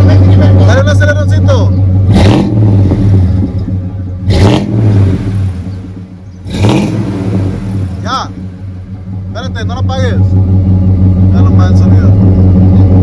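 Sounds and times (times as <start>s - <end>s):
engine idling and revving: 0.0s - 13.0s.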